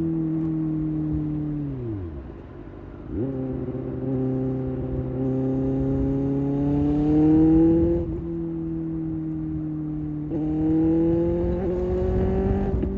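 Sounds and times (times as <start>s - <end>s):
motorcycle engine accelerating: 0.0s - 12.9s.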